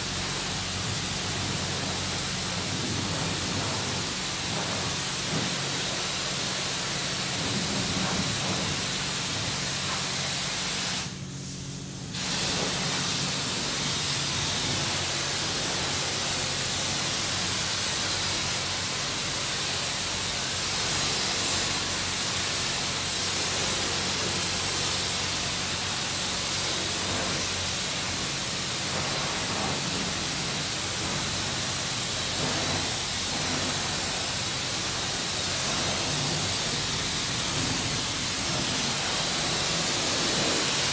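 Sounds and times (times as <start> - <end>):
pressure wand spraying water: 0.0 - 40.9.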